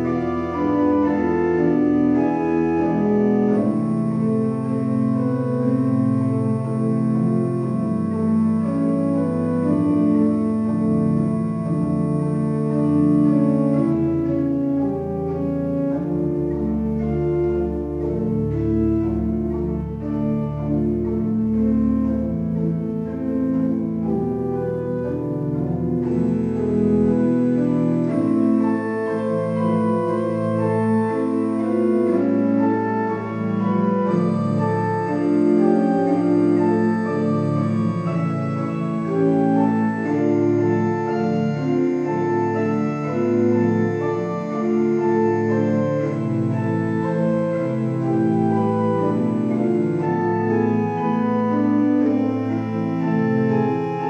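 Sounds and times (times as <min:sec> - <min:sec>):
deep organ pedal bass: 0:00.0 - 0:54.0
pipe organ slow chords: 0:00.0 - 0:54.0.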